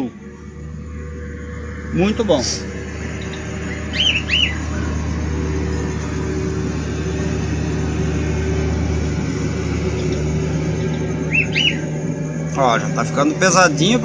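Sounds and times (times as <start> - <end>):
bird chirps: 0.0 - 14.0
vehicle engine droning: 0.0 - 14.0.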